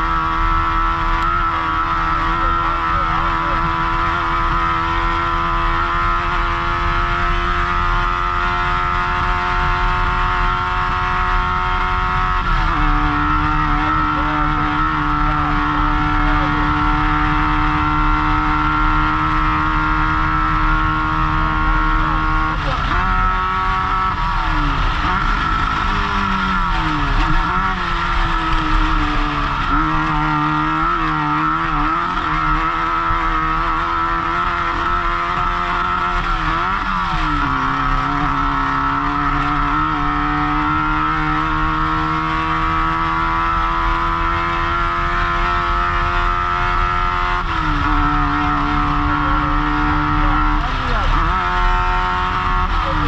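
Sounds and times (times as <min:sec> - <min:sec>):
race car engine at high revs: 0:00.0 - 0:53.0.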